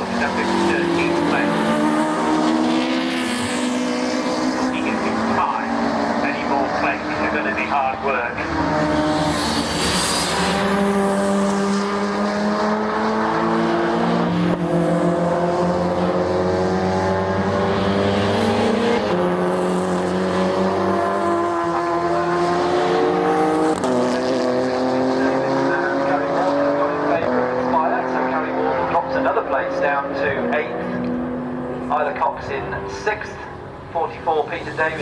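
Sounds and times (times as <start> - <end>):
racing car engine at full throttle: 0.0 - 35.0.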